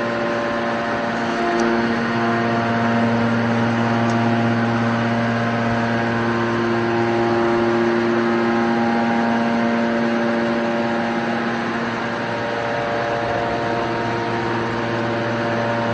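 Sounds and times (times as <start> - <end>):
deeper drone: 0.0 - 15.9
hydraulic power unit humming: 0.0 - 15.9.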